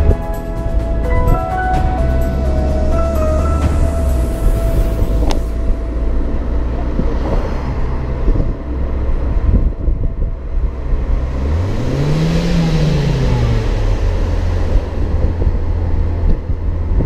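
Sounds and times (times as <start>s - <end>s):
car exhaust engine drone: 0.0s - 17.0s
road and wind noise: 0.0s - 17.0s.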